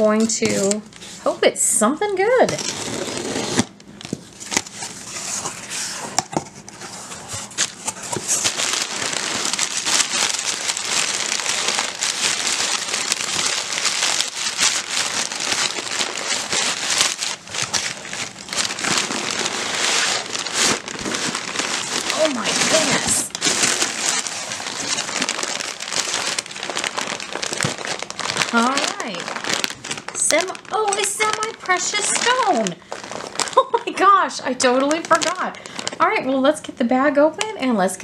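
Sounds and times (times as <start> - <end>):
packing paper crinkling: 0.0 - 1.3, 2.2 - 36.2.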